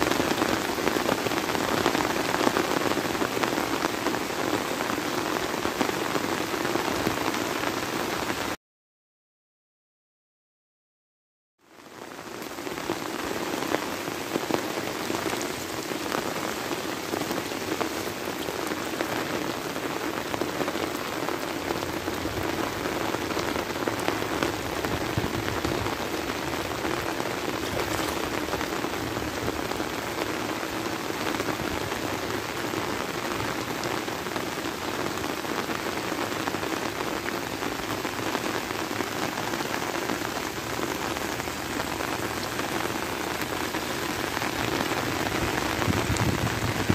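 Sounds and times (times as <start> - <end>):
heavy rain on water and leaves: 0.0 - 8.6, 11.6 - 46.9.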